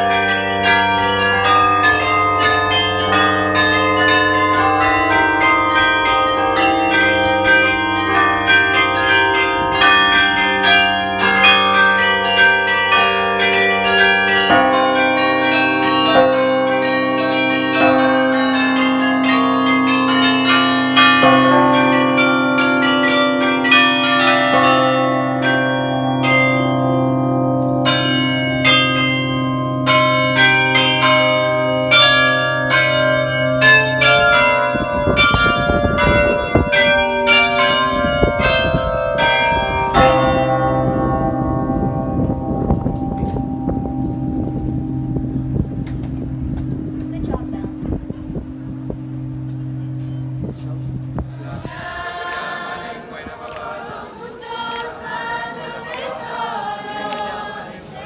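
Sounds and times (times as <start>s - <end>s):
carillon bells playing a tune: 0.0s - 53.2s
deep hum of large bells: 0.0s - 58.0s.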